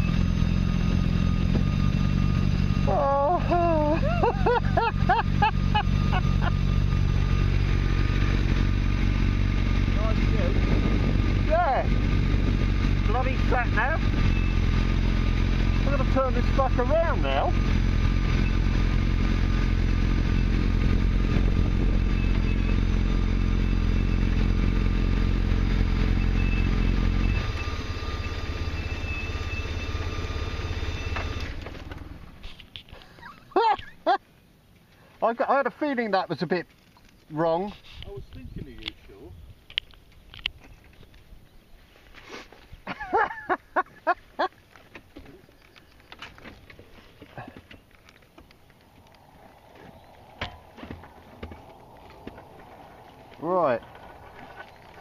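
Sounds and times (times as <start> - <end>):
vehicle engine idling: 0.0 - 35.4, 42.6 - 55.0.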